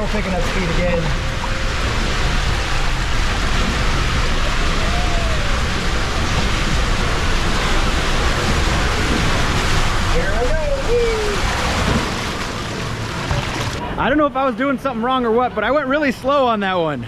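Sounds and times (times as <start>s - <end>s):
body sliding down water slide: 0.0s - 13.8s
water rushing: 0.0s - 17.0s.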